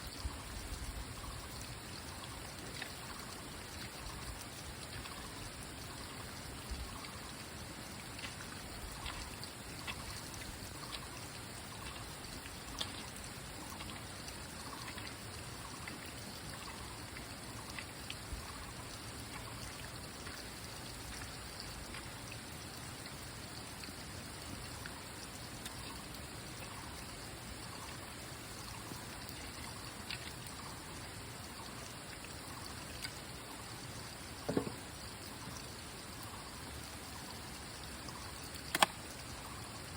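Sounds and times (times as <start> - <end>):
running water trickling: 0.0 - 39.9
small drips and ticks: 0.0 - 39.9.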